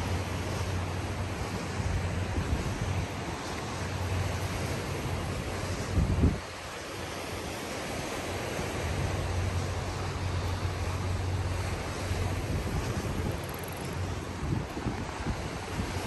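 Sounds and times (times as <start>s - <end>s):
waves rushing on shore: 0.0s - 16.0s
wind buffeting microphone: 0.0s - 16.0s.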